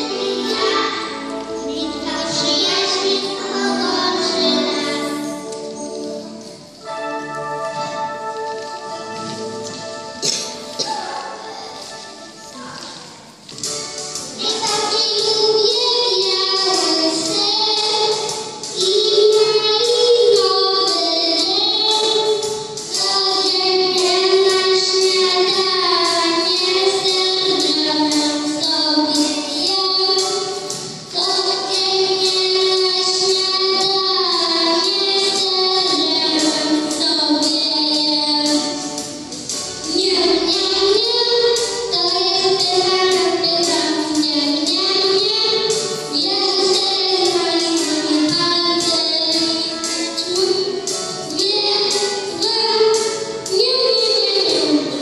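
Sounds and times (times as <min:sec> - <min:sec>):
backing track with steady beat: 0:00.0 - 0:55.0
child singing into microphone: 0:00.0 - 0:55.0.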